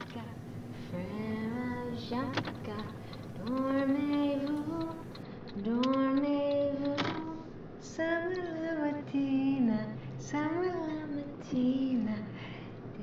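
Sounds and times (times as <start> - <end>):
woman singing wordless notes: 0.0 - 12.4.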